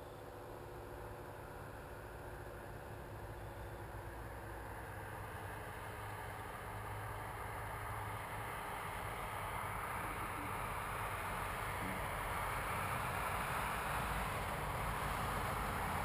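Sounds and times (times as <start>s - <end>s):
distant paramotor engine droning: 0.0s - 16.0s.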